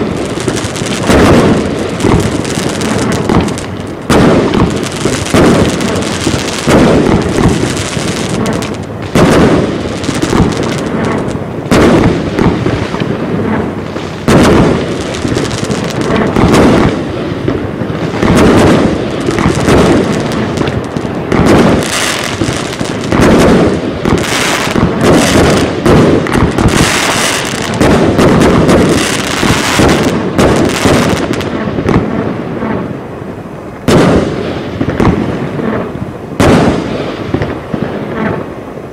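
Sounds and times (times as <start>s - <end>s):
firework aerial bursts: 0.0s - 38.9s
firework crackle: 0.0s - 38.9s.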